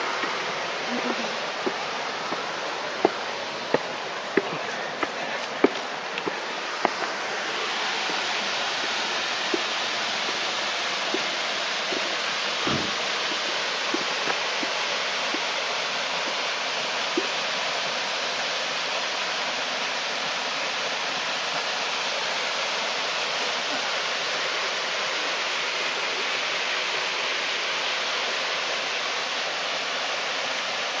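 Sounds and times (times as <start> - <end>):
water pouring down a dam: 0.0 - 31.0.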